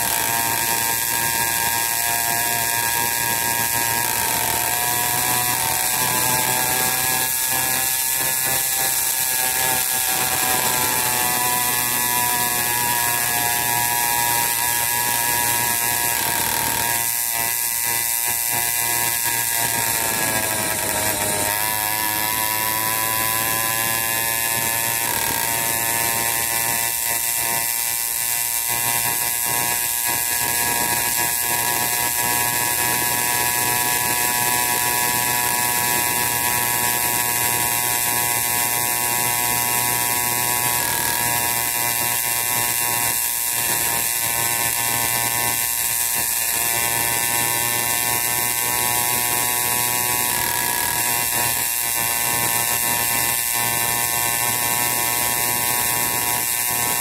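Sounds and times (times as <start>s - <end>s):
motorized bicycle engine buzzing: 0.0s - 57.0s.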